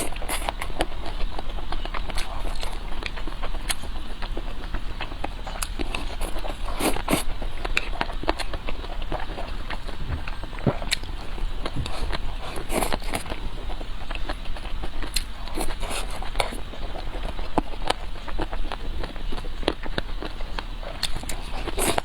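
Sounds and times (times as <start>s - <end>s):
chewing and eating: 0.0s - 22.0s.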